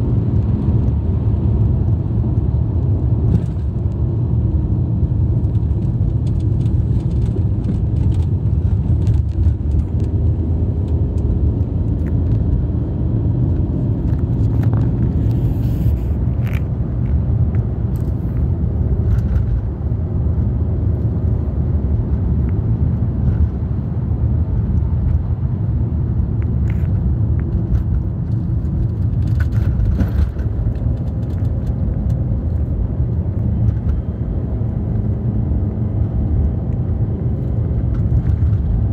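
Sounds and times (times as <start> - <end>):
car engine rumble from inside: 0.0 - 38.9.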